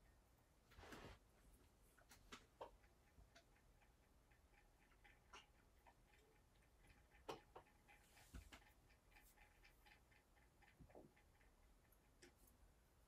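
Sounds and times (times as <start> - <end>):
faint ticks and clicks: 0.0 - 13.0.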